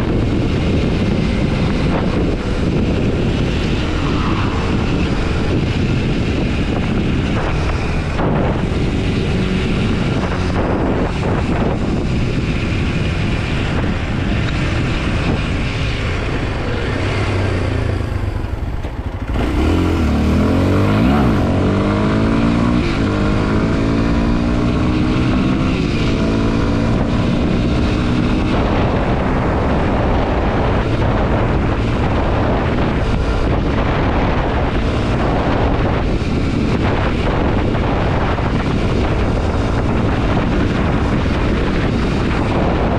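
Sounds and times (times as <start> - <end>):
motorcycle engine accelerating: 0.0 - 42.9
wind noise on microphone: 0.0 - 42.9.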